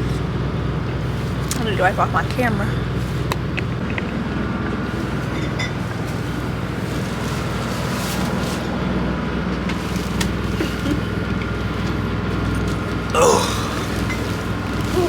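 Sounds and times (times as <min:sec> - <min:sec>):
train car rumble and hum: 0:00.0 - 0:15.0.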